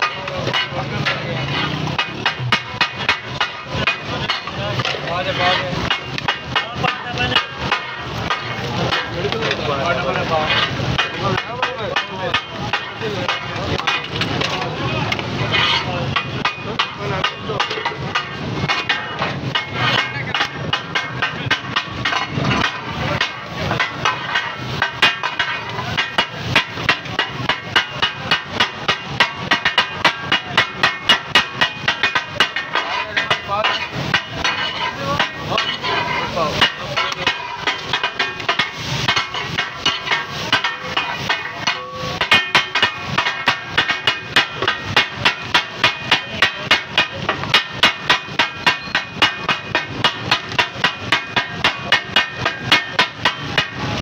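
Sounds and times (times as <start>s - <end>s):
metal spatulas clattering on griddle: 0.0s - 54.0s.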